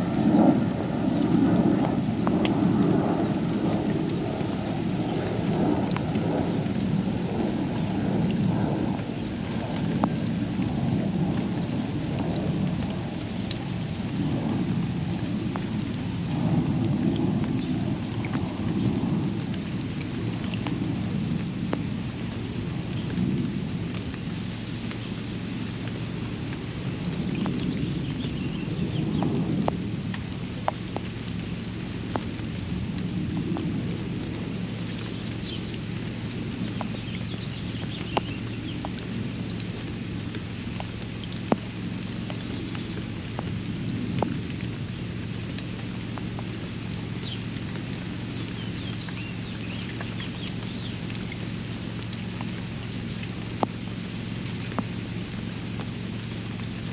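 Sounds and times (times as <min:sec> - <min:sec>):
low rolling rumble: 0:00.0 - 0:56.9
steady rain falling: 0:00.0 - 0:56.9.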